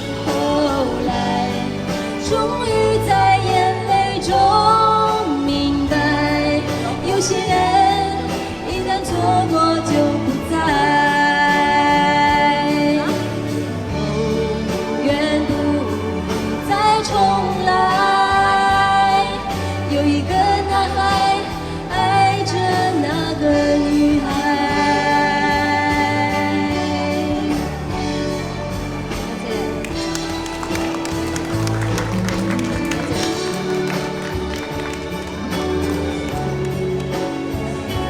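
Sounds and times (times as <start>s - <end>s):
pop ballad accompaniment: 0.0s - 38.0s.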